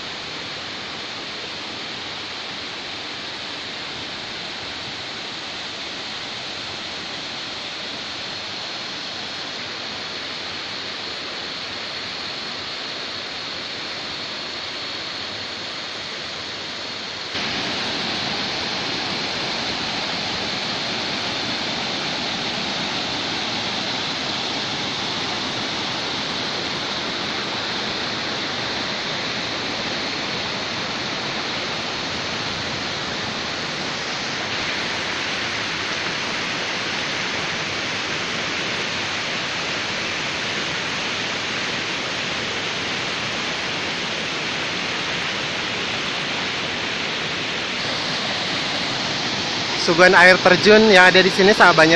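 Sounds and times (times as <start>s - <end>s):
stream rushing over boulders: 0.0s - 51.9s.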